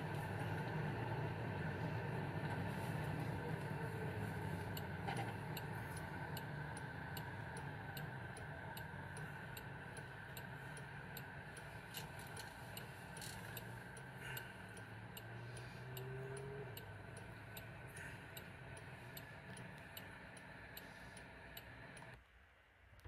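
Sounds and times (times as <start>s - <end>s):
low cabin hum: 0.0s - 22.2s
turn signal ticking: 0.0s - 22.2s.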